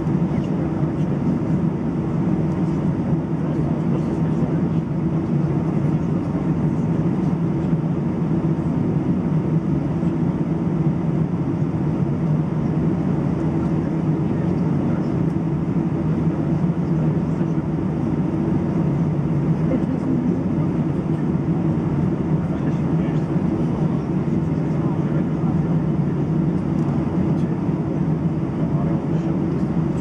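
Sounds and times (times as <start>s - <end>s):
cabin air system running: 0.0s - 30.0s
jet engines idling: 0.0s - 30.0s.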